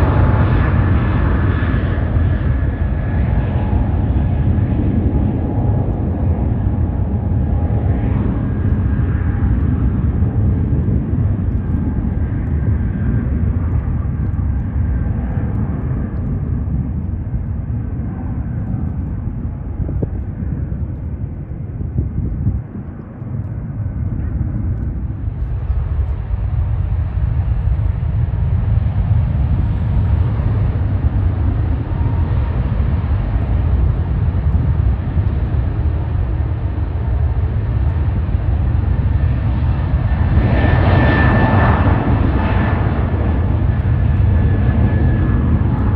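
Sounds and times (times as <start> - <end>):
jet engines rumbling with whine: 0.0 - 45.9.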